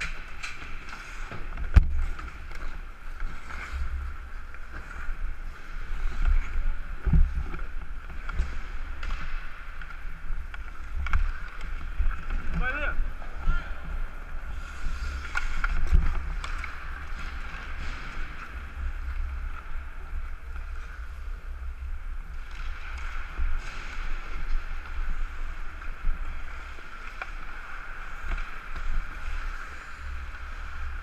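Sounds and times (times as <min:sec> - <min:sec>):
wind rumble on microphone: 0:03.3 - 0:31.0.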